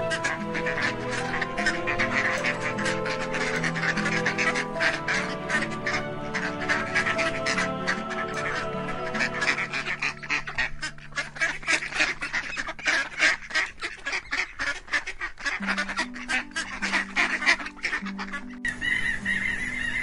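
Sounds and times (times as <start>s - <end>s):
ducks quacking: 0.0s - 20.0s
soft background music: 0.0s - 20.0s.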